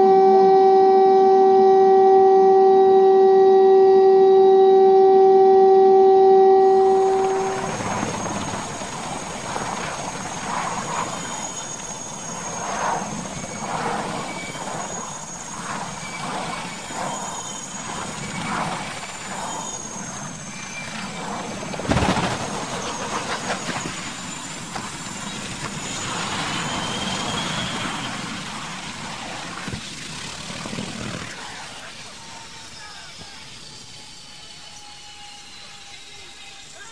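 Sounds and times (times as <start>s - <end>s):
high turbine whine: 0.0s - 36.9s
helicopter rotor and engine: 6.7s - 36.9s.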